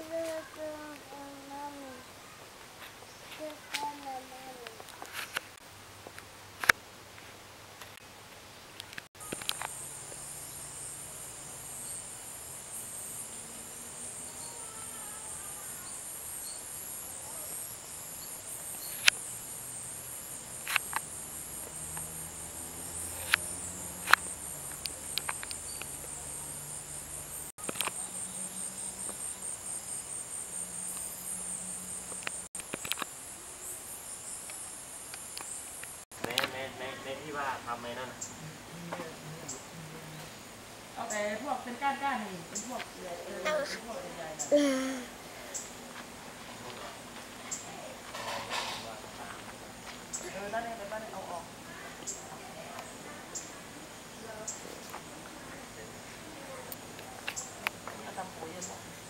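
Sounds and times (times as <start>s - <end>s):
insects chirping: 0.0s - 5.7s, 7.8s - 59.0s.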